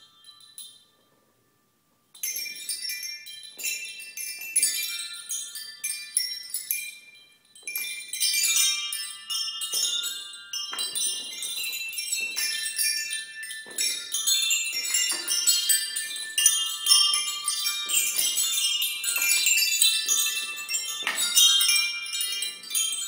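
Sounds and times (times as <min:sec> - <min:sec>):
chime rods ringing: 0:02.2 - 0:23.0.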